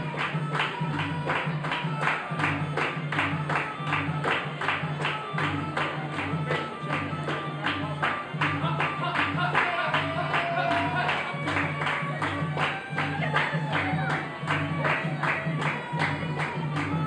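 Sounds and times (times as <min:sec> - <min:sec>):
struck percussion notes: 0:00.0 - 0:17.0.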